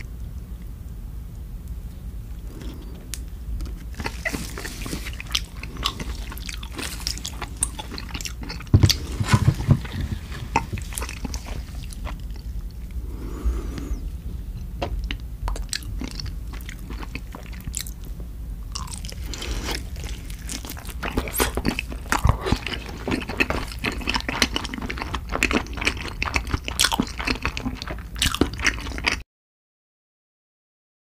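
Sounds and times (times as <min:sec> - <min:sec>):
crunchy biting and chewing: 0:02.5 - 0:03.0, 0:03.6 - 0:14.0, 0:15.0 - 0:29.2.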